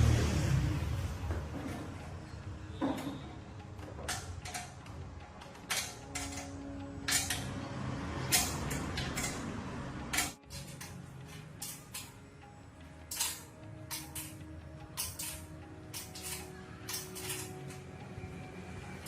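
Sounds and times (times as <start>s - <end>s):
tools clicking and knocking: 1.2s - 12.3s, 13.0s - 18.1s.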